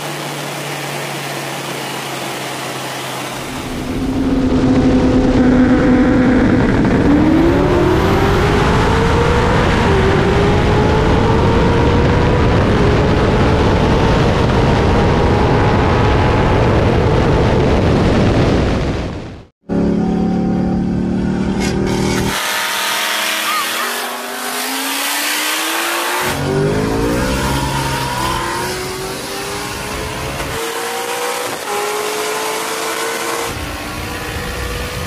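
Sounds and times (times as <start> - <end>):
car engine at full throttle: 0.0 - 35.0
road and wind noise: 0.0 - 35.0.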